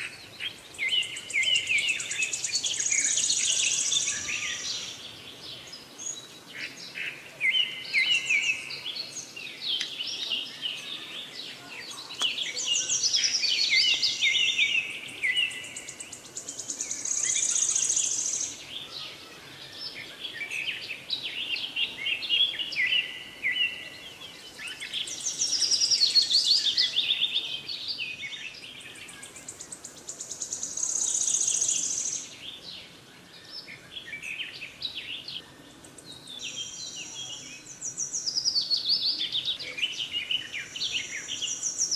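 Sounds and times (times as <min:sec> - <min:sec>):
songbirds chirping and singing: 0:00.0 - 0:41.9.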